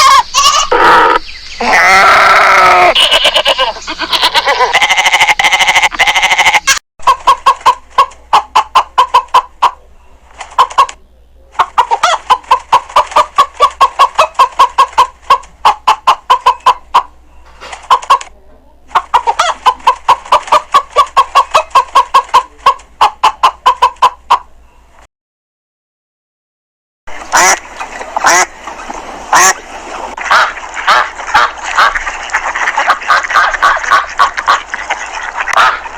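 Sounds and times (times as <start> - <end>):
chicken clucking: 0.0 - 24.5, 27.2 - 35.9.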